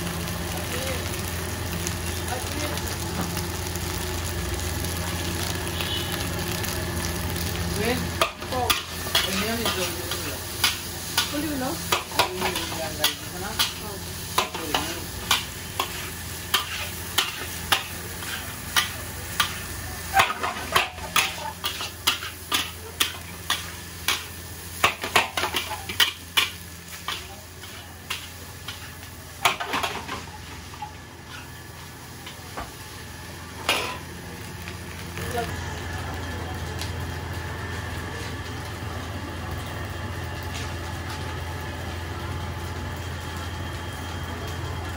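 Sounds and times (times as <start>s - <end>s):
fried rice sizzling: 0.0s - 44.9s.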